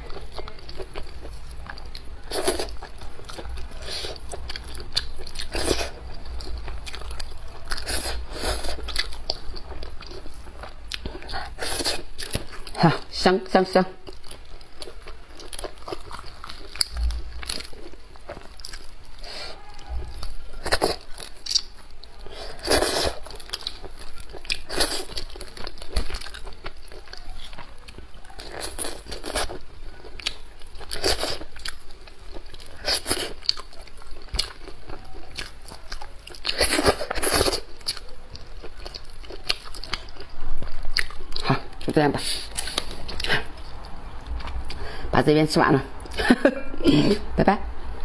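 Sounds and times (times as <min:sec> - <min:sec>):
person chewing: 0:00.0 - 0:13.1, 0:14.0 - 0:45.0.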